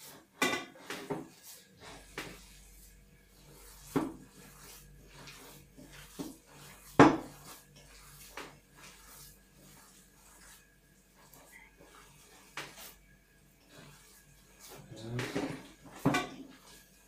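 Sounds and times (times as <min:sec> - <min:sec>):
hands kneading minced meat: 0:00.0 - 0:17.0.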